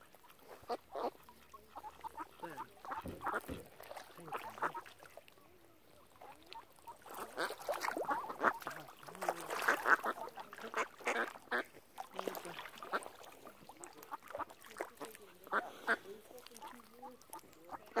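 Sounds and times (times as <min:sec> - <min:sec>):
ducks quacking: 0:00.0 - 0:05.2, 0:06.1 - 0:18.0.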